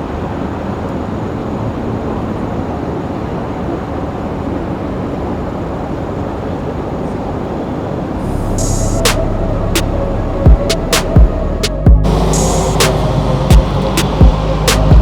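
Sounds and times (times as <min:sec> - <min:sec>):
low rumble of vehicles: 0:00.0 - 0:15.0.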